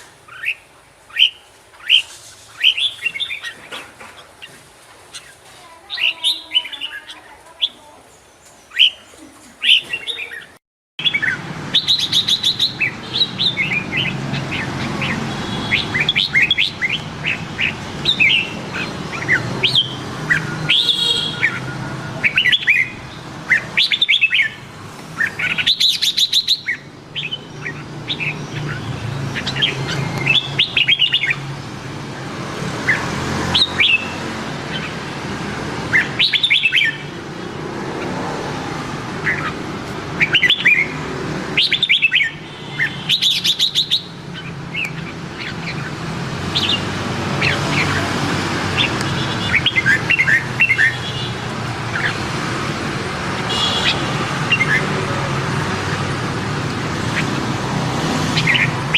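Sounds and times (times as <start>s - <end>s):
bird singing warbled phrases: 0.0s - 31.7s, 32.8s - 35.1s, 35.8s - 38.2s, 39.1s - 52.4s, 53.3s - 55.1s, 56.9s - 58.9s.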